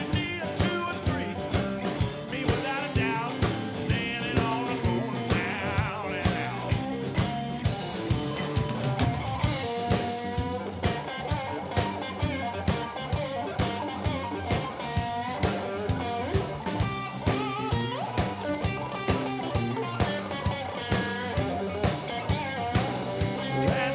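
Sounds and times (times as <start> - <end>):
bass guitar: 0.0 - 23.9
electric guitar lead with bent notes: 0.0 - 23.9
steady drum beat: 0.0 - 23.9.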